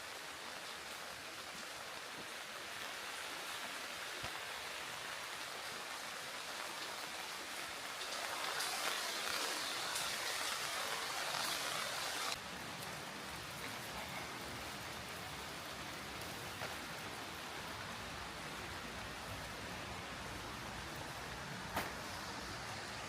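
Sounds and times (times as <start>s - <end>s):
rain hiss: 0.0s - 23.0s.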